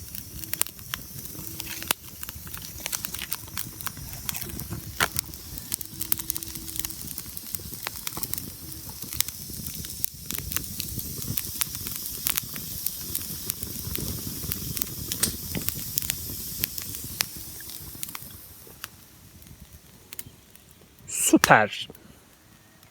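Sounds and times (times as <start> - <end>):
fire hissing: 0.0 - 22.9
wood crackling and popping: 0.0 - 22.9.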